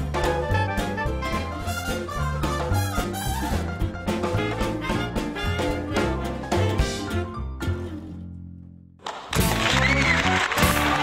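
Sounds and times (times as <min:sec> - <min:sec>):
swing instrumental music: 0:00.0 - 0:08.6, 0:09.4 - 0:11.0.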